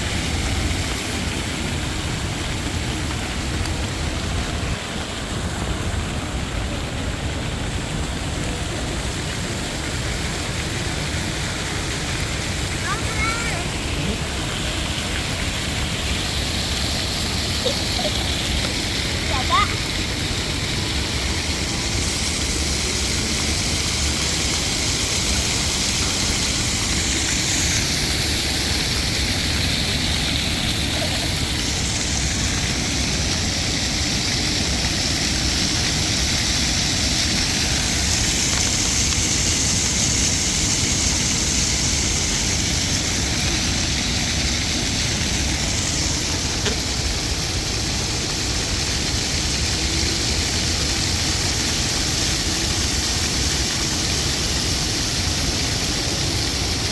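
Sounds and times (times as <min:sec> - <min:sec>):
fountain water splashing: 0:00.0 - 0:56.9.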